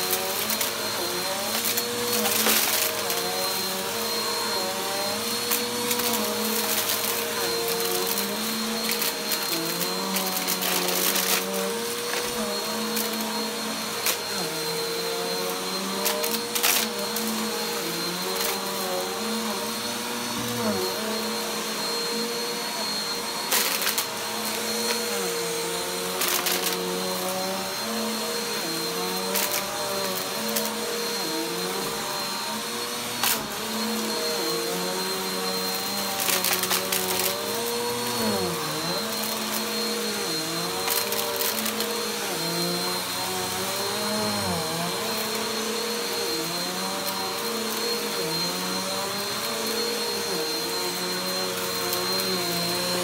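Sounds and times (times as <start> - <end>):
vacuum cleaner motor hum: 0.0 - 53.0.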